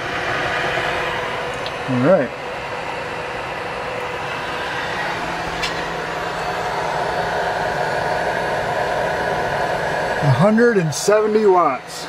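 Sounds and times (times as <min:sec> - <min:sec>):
server cooling fans whirring: 0:00.0 - 0:12.0.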